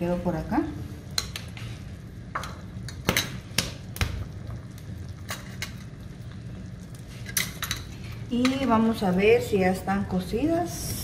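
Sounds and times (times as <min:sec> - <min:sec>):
broth boiling rumble: 0:00.0 - 0:11.0.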